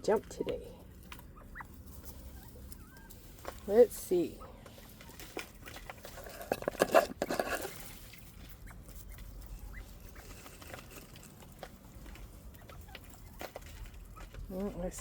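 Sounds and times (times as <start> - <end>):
quail pecking and crunching: 0.0 - 15.0
rustling: 0.0 - 15.0.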